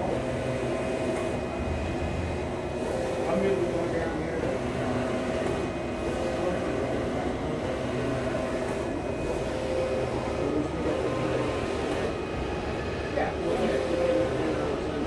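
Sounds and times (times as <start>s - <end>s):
printer whirring and humming: 0.0s - 15.0s.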